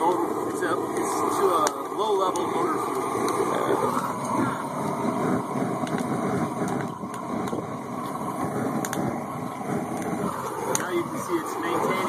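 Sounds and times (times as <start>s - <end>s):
faint fire crackles: 0.0s - 12.0s
stove fire rushing: 0.0s - 12.0s.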